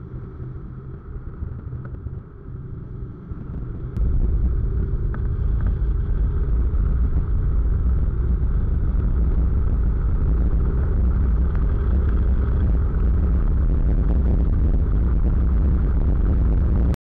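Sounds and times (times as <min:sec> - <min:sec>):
motorcycle engine rumble: 0:00.0 - 0:17.0
wind noise: 0:00.0 - 0:17.0.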